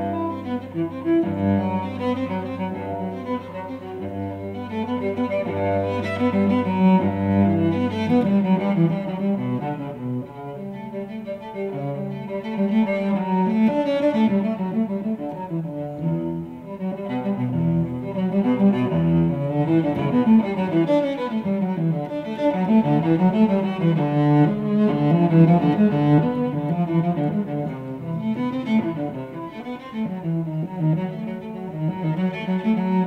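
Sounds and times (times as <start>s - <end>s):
solo cello bowed: 0.0s - 33.0s.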